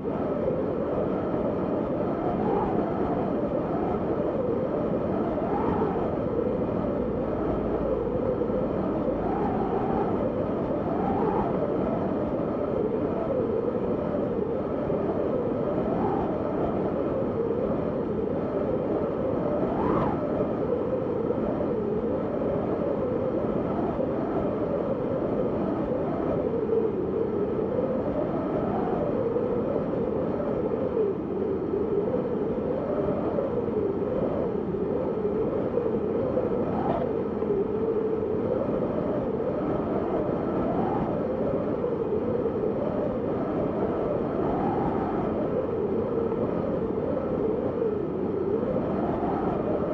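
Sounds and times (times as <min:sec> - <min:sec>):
wind howling: 0:00.0 - 0:49.9.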